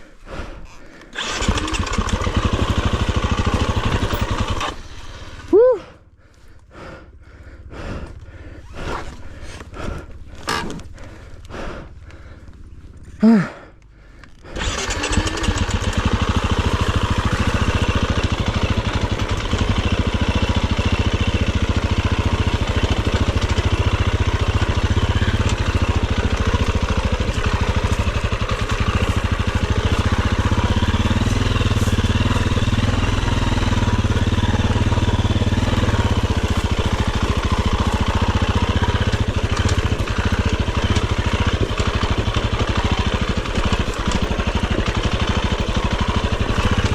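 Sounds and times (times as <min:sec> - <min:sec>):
dirt bike engine running: 0:00.1 - 0:46.9.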